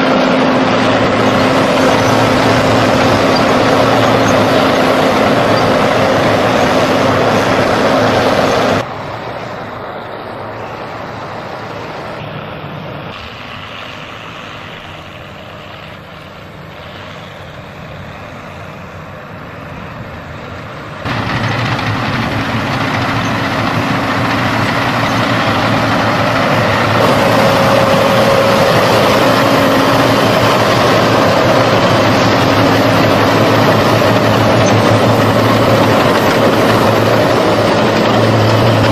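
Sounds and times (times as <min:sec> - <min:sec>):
tractor engines running under load: 0:00.0 - 0:38.9.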